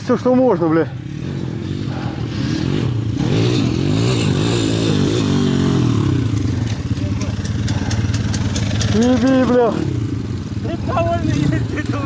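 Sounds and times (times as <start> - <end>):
dirt bike engine revving: 0.2 - 12.0.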